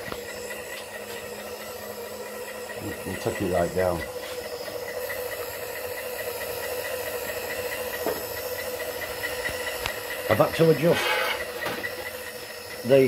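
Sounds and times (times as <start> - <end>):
power feed motor whining: 0.0 - 13.0.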